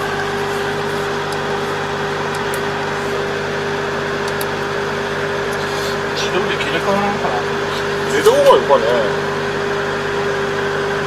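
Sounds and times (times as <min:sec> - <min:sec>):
harvester engine drone: 0:00.0 - 0:11.0
steady whining tone: 0:00.0 - 0:11.0.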